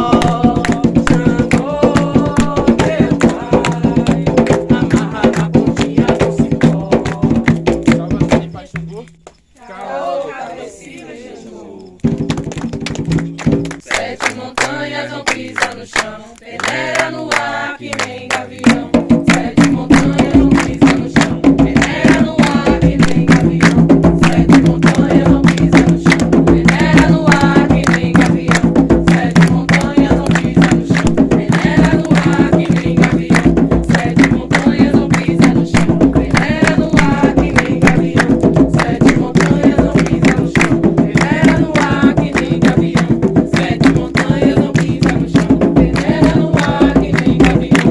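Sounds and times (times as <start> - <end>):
group of voices singing: 0.0 - 7.9, 9.6 - 12.2, 13.0 - 47.9
fast hand drumming: 0.0 - 9.0, 12.0 - 47.9.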